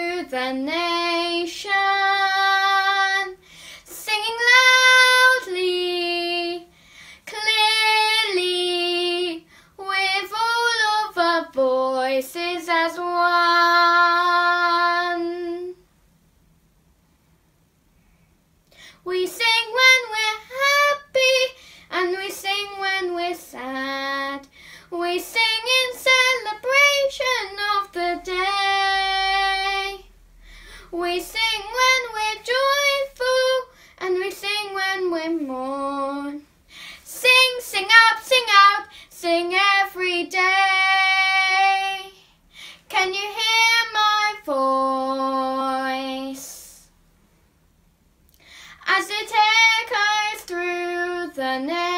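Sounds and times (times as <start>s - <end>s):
girl singing unaccompanied: 0.0s - 15.9s, 18.9s - 46.9s, 48.7s - 51.9s.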